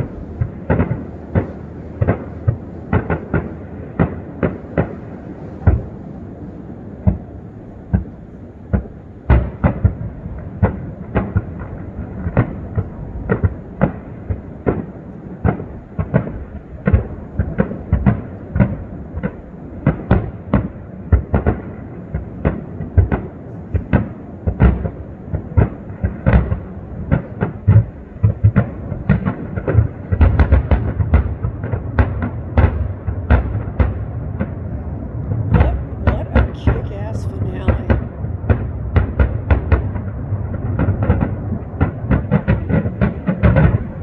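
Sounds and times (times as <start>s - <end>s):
fireworks booming with echo: 0.0s - 44.0s.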